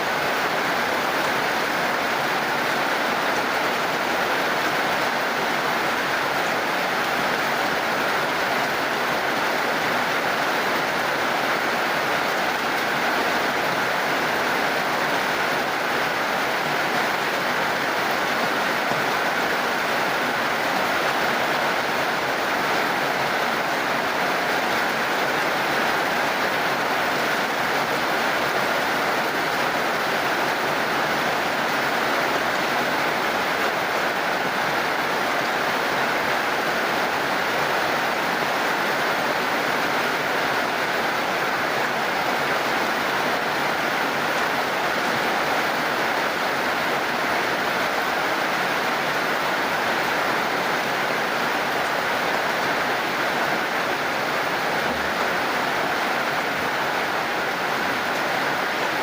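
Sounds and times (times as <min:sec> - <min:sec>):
heavy rain hissing: 0:00.0 - 0:59.0.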